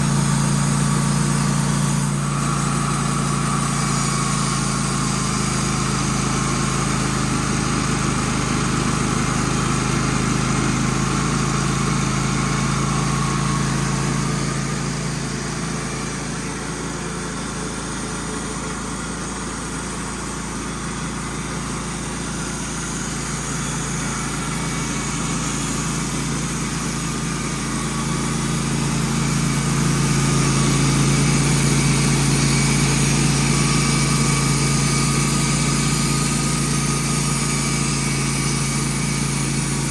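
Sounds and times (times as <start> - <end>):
band sawmill engine running: 0.0 - 39.9.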